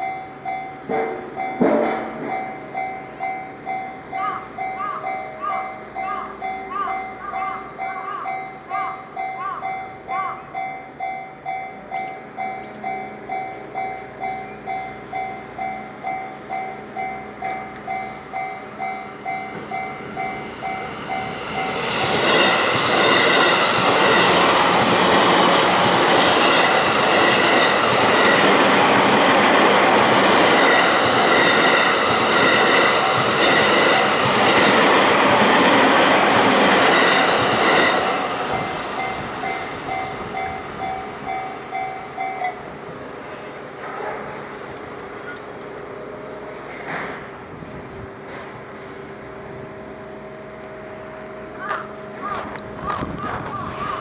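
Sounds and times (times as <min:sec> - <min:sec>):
train passing: 0:00.0 - 0:54.0.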